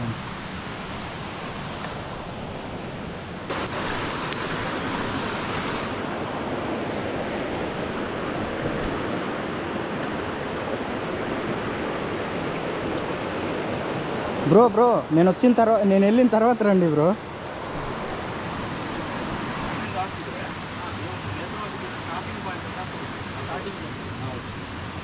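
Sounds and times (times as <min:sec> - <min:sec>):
rushing flowing water: 0:00.0 - 0:25.0.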